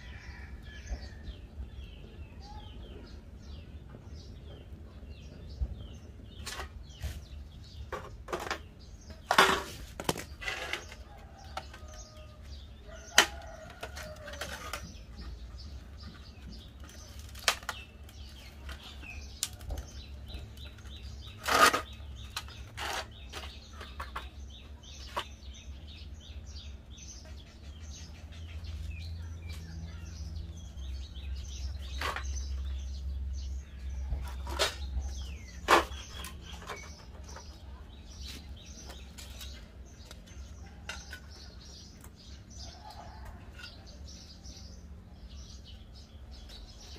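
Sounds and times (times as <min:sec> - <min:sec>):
birds calling: 0:00.0 - 0:46.9.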